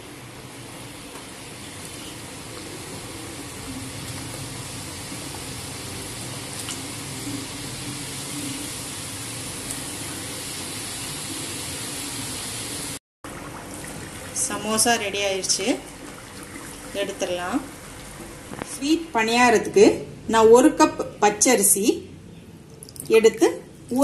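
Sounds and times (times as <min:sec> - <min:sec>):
food deep-frying sizzle: 0:00.0 - 0:19.4.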